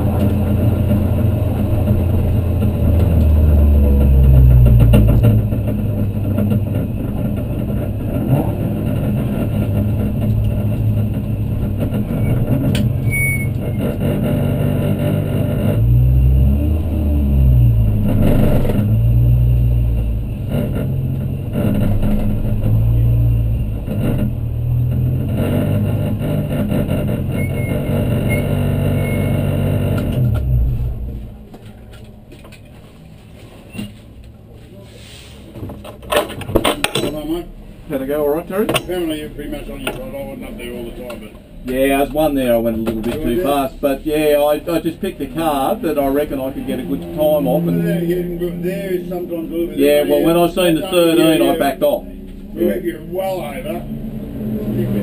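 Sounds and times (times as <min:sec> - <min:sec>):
car engine revving: 0:00.0 - 0:31.5, 0:36.8 - 0:55.0.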